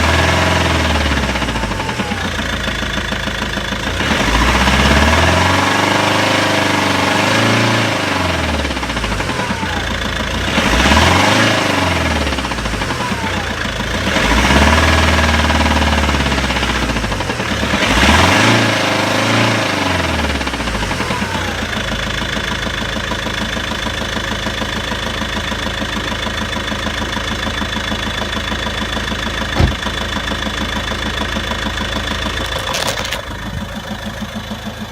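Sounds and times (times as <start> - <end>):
diesel engine revving and idling: 0.0 - 34.9
engine knocking: 0.0 - 34.9.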